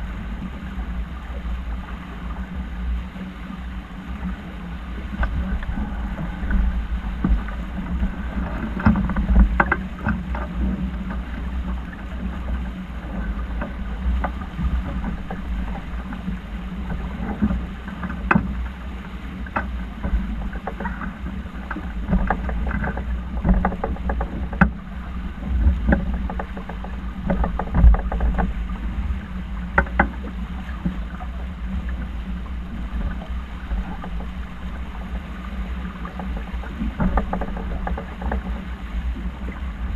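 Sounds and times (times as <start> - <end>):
low hum: 0.0 - 39.9
water noise: 0.0 - 39.9
wind buffeting microphone: 0.0 - 39.9.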